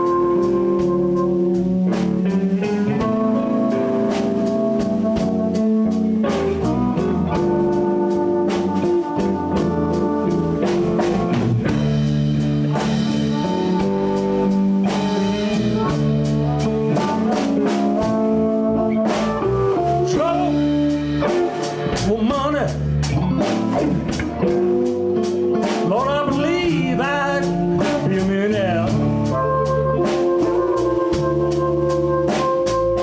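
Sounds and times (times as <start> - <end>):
bass: 0.0 - 33.0
drum kit steady beat: 0.0 - 33.0
electric guitar: 0.0 - 33.0.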